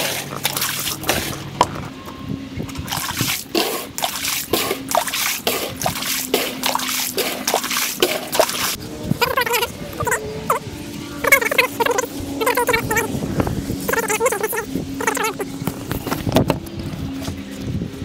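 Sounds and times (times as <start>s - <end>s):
water trickling and splashing: 0.0s - 2.0s, 2.6s - 16.4s.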